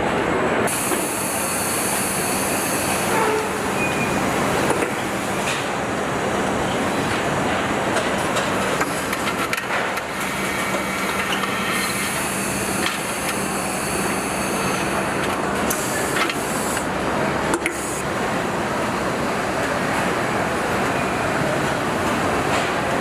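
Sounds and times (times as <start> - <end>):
factory machinery din: 0.0 - 23.0.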